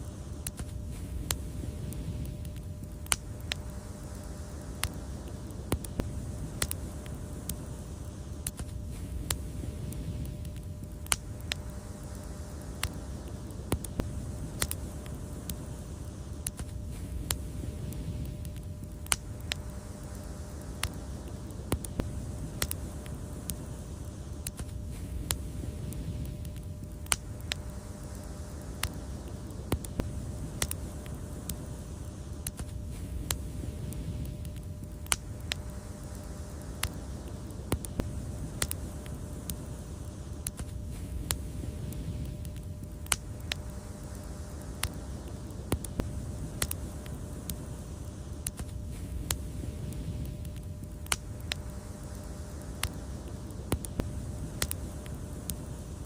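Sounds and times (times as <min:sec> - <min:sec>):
low rumble of fire: 0:00.0 - 0:56.0
wood fire crackling: 0:00.0 - 0:56.0.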